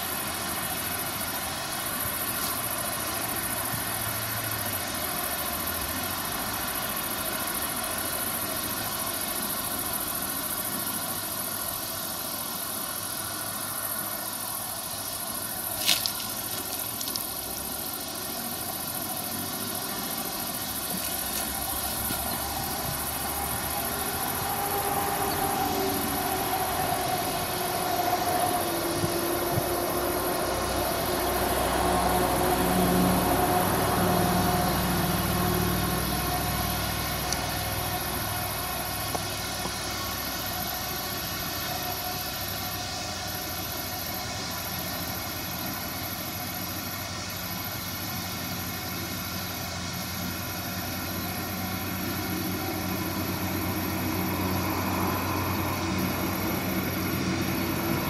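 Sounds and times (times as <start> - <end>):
combine harvester running: 6.1 - 58.0.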